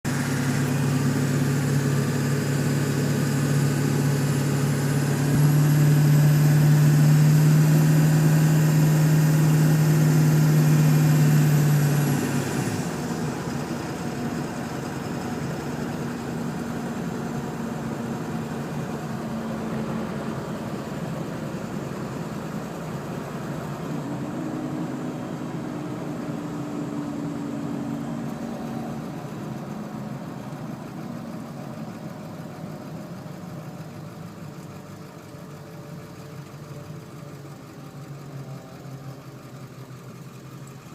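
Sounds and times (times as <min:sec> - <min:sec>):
diesel engine revving: 0:00.0 - 0:32.9.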